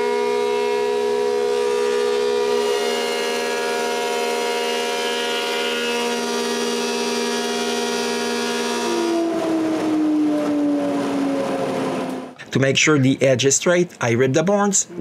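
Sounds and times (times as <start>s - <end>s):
thickness planer whine: 0.0s - 12.4s.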